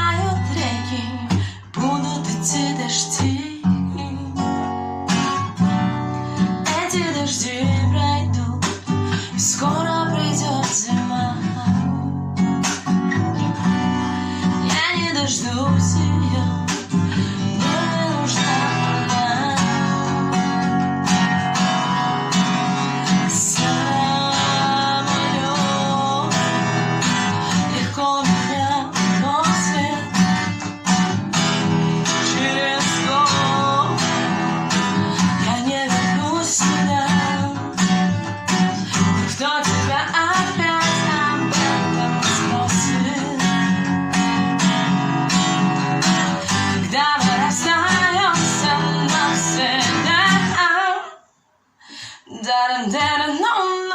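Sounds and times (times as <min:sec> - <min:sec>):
acoustic guitar strumming: 0:00.0 - 0:51.0.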